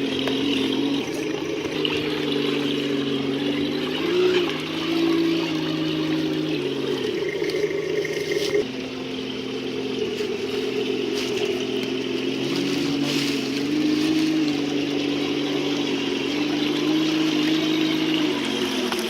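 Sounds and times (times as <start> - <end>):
electric motor and gearbox whining: 0.0 - 19.0.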